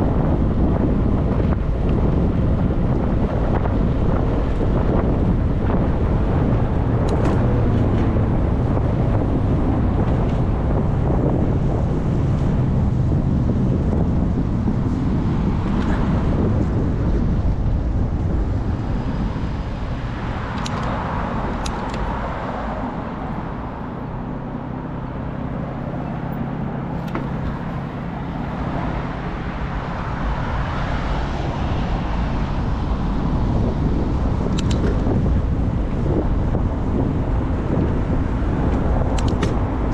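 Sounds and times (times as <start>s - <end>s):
cars passing: 0.0s - 39.9s.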